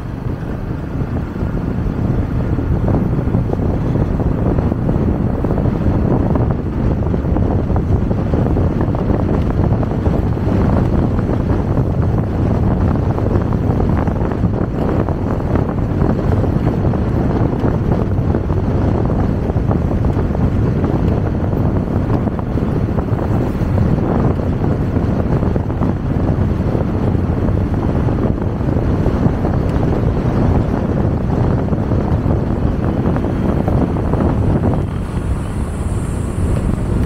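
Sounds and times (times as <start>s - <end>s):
motorcycle road noise: 0.0s - 37.0s
wind buffeting microphone: 0.0s - 37.0s.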